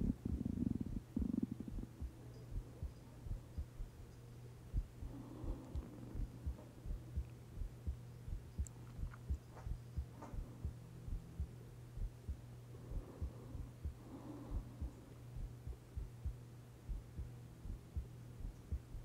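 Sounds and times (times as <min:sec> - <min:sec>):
soft low heartbeat-like thumps: 0:00.0 - 0:19.0
steady low hum: 0:00.0 - 0:19.0.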